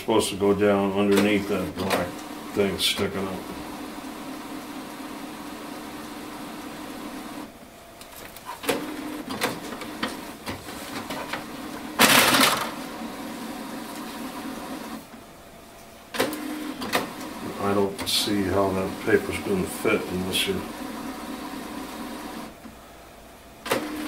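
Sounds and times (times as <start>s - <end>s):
printer mechanical hum: 0.0s - 24.0s.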